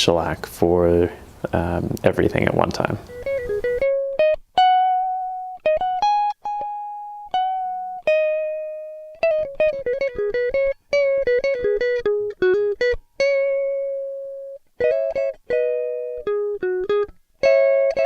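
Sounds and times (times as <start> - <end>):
solo guitar plucking melody: 1.5 - 18.0.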